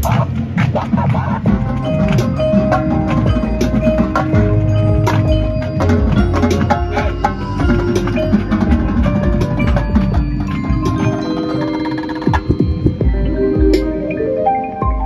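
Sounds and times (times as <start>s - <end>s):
drum and cymbal hits: 0.0s - 14.0s
low bass: 0.0s - 14.2s
marimbas playing quick notes: 1.1s - 15.0s.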